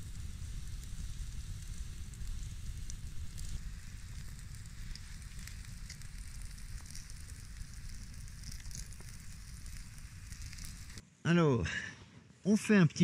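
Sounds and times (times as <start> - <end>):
campfire hissing and crackling: 0.0 - 11.6.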